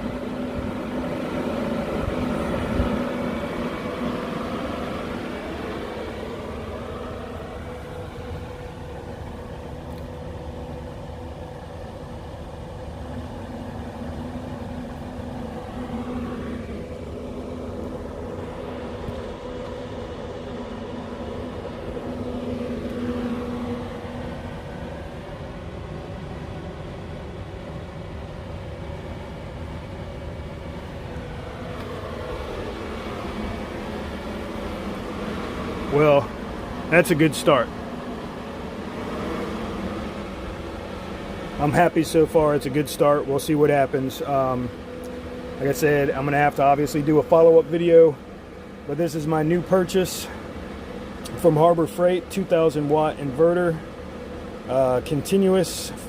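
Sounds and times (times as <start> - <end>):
electrical hum: 0.0 - 56.0
fan noise: 0.0 - 56.0.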